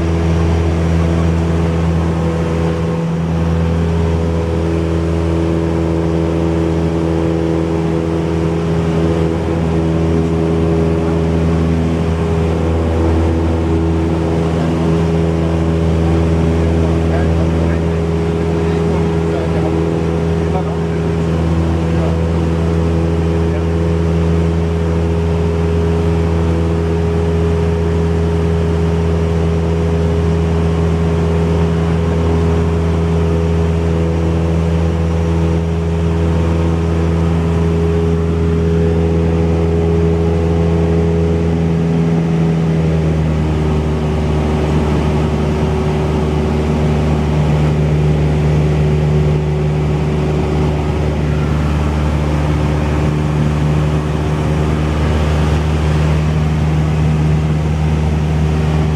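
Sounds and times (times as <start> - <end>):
propeller plane engine droning: 0.0 - 58.9.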